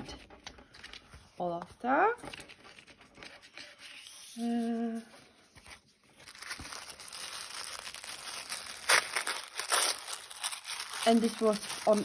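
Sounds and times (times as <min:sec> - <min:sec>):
paper and plastic wrapping crinkling: 0:02.2 - 0:12.0.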